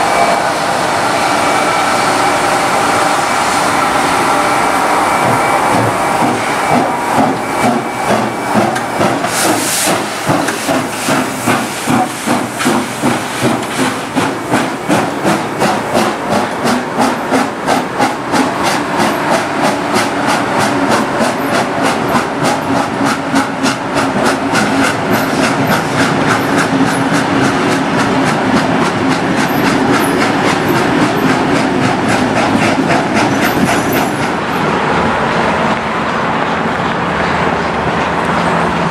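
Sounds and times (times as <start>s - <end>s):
steam hiss: 0.0s - 34.4s
steam locomotive chuffing: 0.0s - 38.9s.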